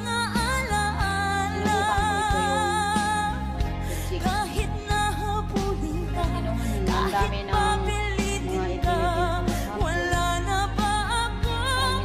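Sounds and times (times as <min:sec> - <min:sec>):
instrumental backing: 0:00.0 - 0:12.0.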